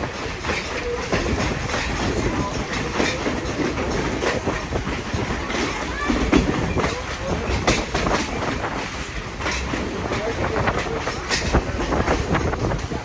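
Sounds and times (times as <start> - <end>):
train coach rumbling: 0.0 - 13.0
wheels clicking over rails: 0.0 - 13.0.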